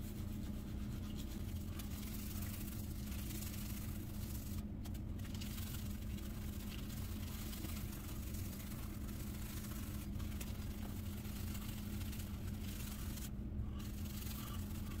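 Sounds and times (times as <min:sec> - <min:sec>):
shaving brush swishing lather: 0:00.0 - 0:15.0
steady low hum: 0:00.0 - 0:15.0.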